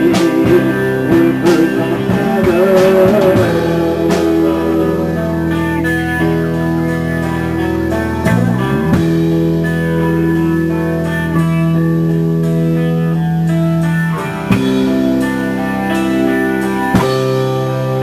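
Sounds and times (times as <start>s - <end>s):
guitar chords over bass: 0.0s - 18.0s.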